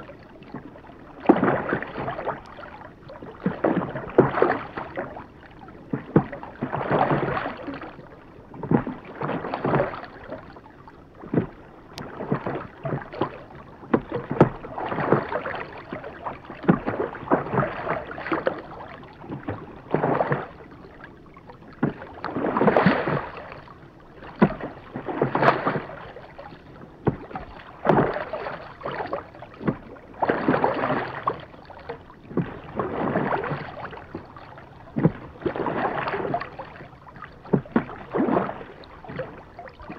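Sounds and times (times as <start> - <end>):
oars pulling through water: 0.0 - 39.9.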